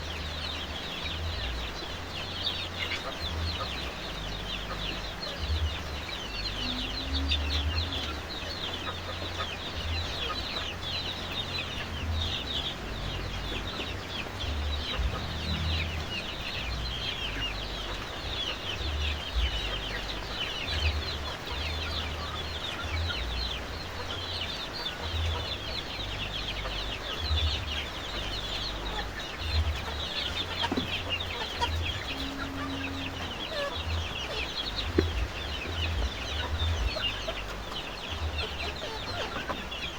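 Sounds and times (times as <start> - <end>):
chickens clucking and calling: 0.0 - 39.9
low uneven rumble: 0.0 - 39.9.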